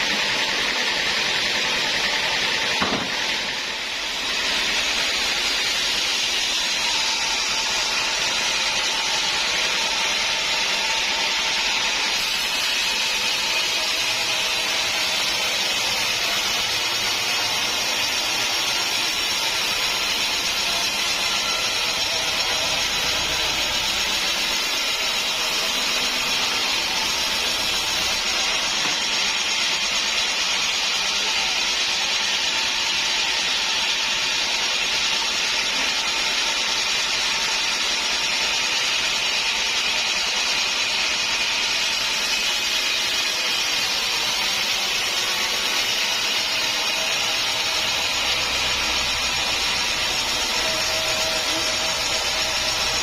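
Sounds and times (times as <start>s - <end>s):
sawmill blade cutting wood: 0.0s - 53.0s.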